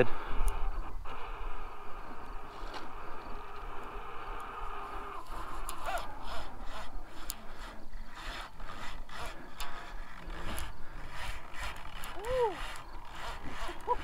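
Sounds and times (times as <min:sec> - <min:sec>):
fishing reel grinding under load: 0:02.4 - 0:14.0.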